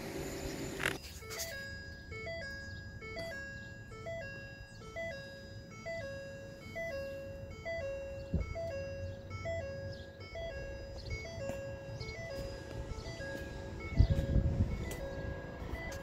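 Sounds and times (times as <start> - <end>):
two-note warning chime: 0.0 - 16.0.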